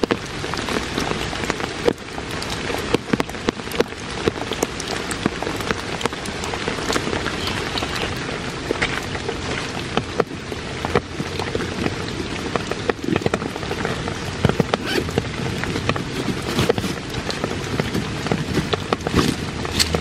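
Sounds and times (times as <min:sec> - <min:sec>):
sharp ticks of raindrops: 0:00.0 - 0:20.0
steady rain falling: 0:00.0 - 0:20.0.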